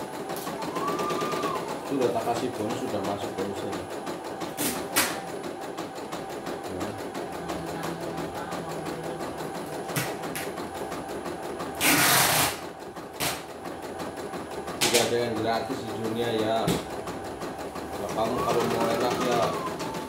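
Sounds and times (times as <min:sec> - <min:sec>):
embroidery machine needle patter: 0:00.0 - 0:20.0.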